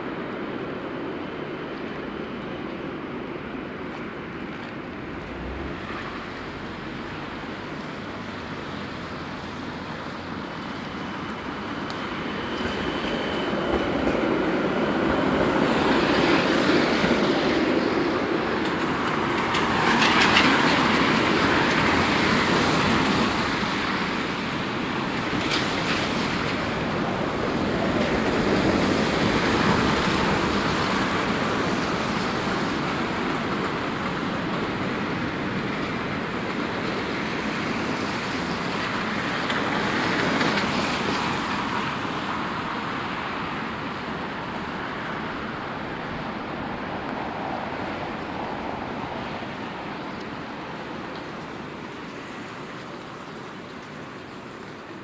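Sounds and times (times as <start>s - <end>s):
traffic on a wet street: 0.0s - 55.0s.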